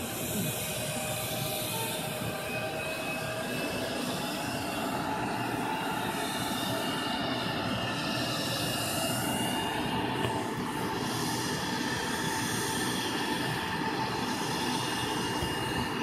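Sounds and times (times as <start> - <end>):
jet engine whine spooling up: 0.0 - 16.0.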